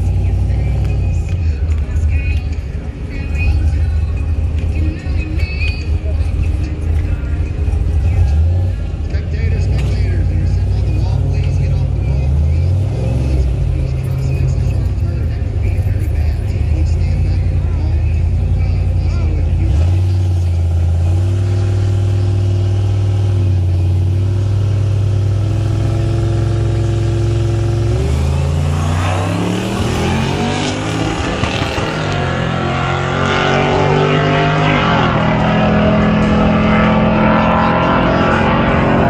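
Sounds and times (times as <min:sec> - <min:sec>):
vehicle engine accelerating: 0:00.0 - 0:39.0.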